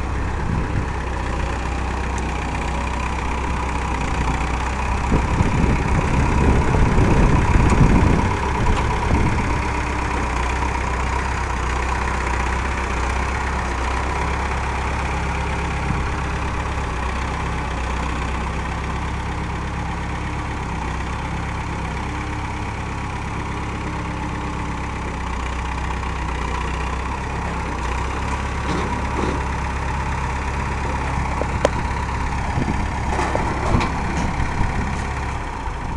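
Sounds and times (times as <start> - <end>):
tractor diesel engine idling: 0.0 - 35.9.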